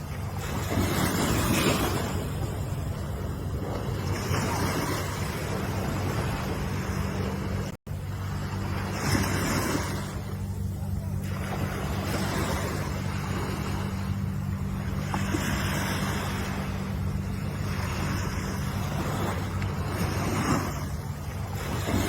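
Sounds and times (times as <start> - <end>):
ocean surf washing ashore: 0.0 - 22.0
steady low hum: 0.0 - 22.0.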